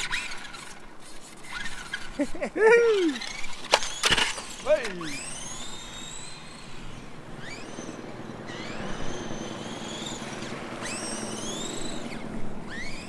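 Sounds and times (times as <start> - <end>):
rc car electric motor whining: 0.0 - 13.0.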